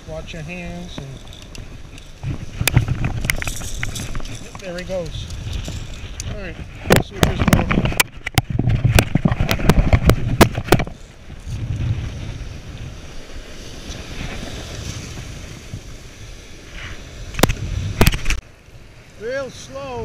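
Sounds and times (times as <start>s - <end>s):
surf breaking on rocks: 0.0s - 20.0s
wind on microphone: 0.0s - 20.0s.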